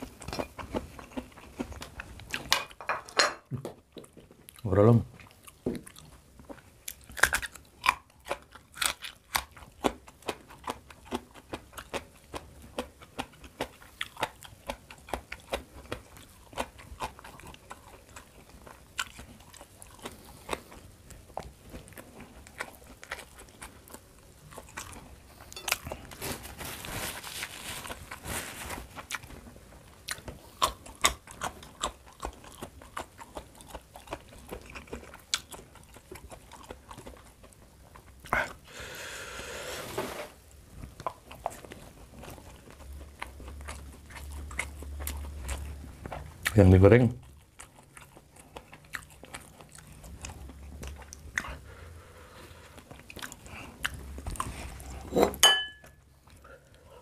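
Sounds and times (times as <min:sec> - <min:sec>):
chewing and crunching food: 0:00.0 - 0:02.8, 0:03.4 - 0:57.0.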